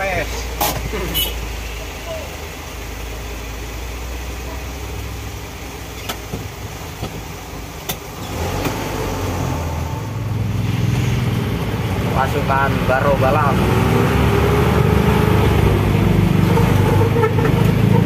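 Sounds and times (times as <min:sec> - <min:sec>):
truck diesel engine running: 0:00.3 - 0:18.0.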